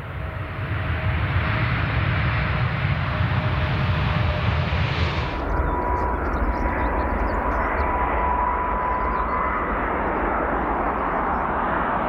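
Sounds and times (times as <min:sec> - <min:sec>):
engine whine: 0:00.0 - 0:12.0
jet engines of landing airliner: 0:00.0 - 0:12.0.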